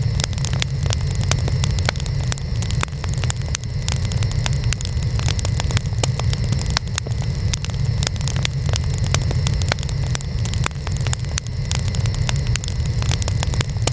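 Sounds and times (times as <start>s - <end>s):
low rumble of flames: 0.0s - 13.9s
wood fire crackling: 0.0s - 13.9s.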